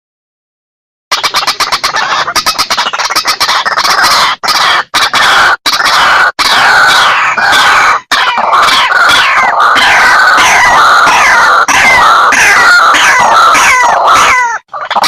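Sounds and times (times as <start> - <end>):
waterhen calling: 1.1 - 15.0.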